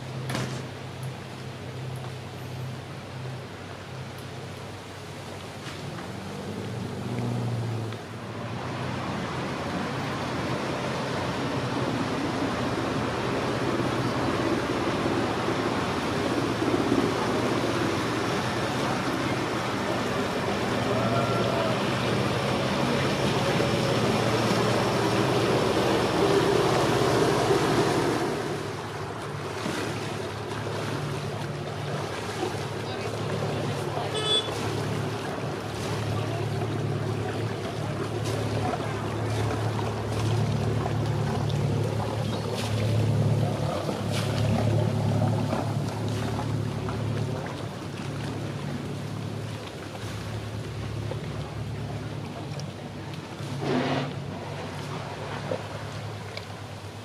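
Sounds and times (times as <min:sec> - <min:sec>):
boat engine running steadily: 0:00.0 - 0:57.0.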